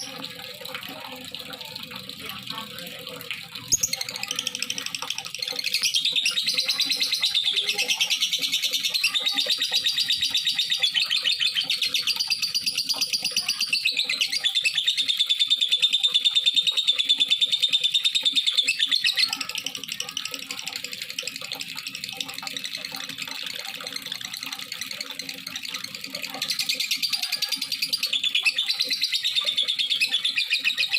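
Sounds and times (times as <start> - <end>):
lovebird chattering trill: 3.5 - 21.2, 22.0 - 30.9.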